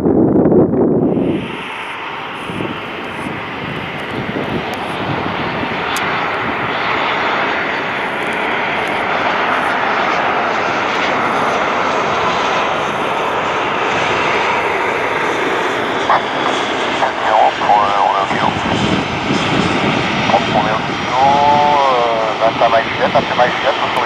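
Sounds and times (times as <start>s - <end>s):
jet engine rushing: 0.8s - 24.0s.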